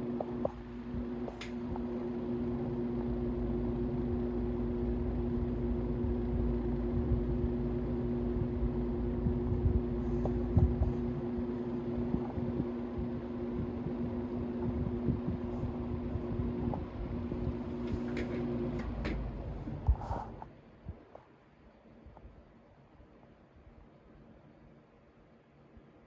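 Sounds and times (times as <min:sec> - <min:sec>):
fan motor hum: 0:00.0 - 0:26.0.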